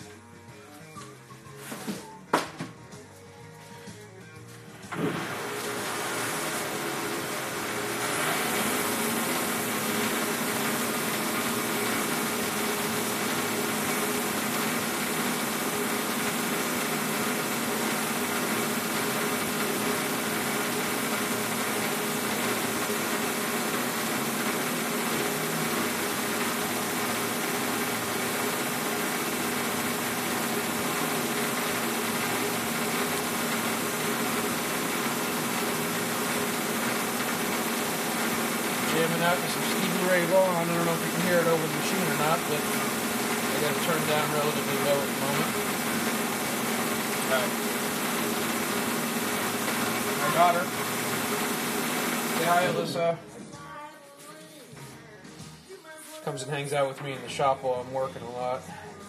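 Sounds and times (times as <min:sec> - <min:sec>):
metal lathe running: 0:04.8 - 0:53.1.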